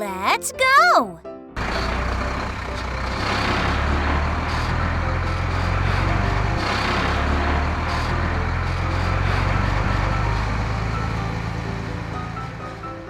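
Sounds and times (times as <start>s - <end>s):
heavy truck engines running: 1.6s - 13.0s.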